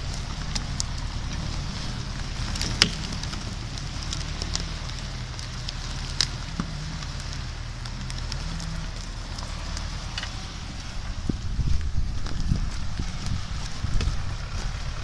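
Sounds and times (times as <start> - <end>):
branches snapping: 0.0 - 15.0
tractor diesel engine under load: 0.0 - 15.0.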